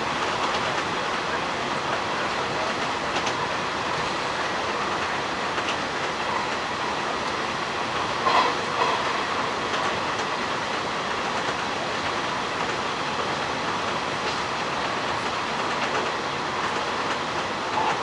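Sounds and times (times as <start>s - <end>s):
train bumps: 0.0s - 18.0s
train wheels rumbling on rail: 0.0s - 18.0s.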